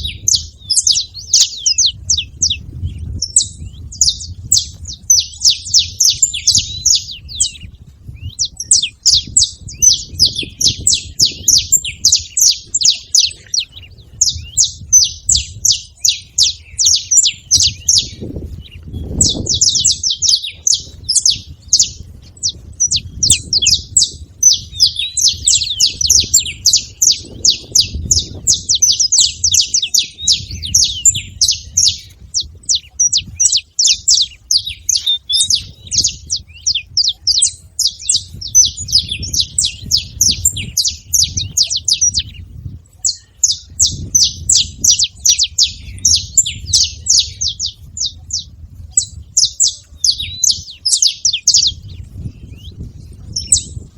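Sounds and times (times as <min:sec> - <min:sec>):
finch singing high chirps: 0:00.0 - 0:53.9.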